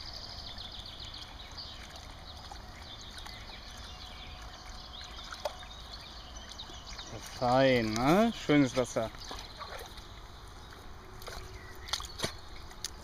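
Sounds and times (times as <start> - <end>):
low steady rumble: 0.0 - 13.0
stream trickling and babbling: 0.0 - 13.0.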